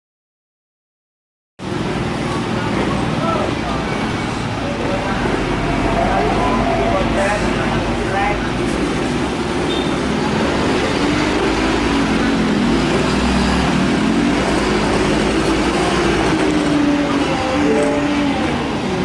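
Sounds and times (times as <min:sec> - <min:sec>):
diesel truck engine running: 0:01.6 - 0:19.0.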